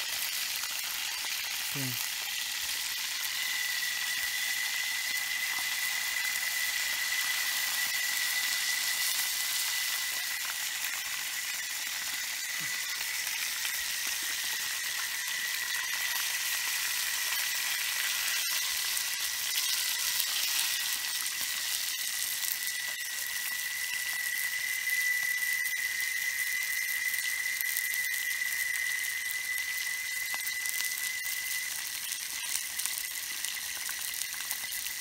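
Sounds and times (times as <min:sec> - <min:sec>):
fish sizzling in hot oil: 0:00.0 - 0:35.0.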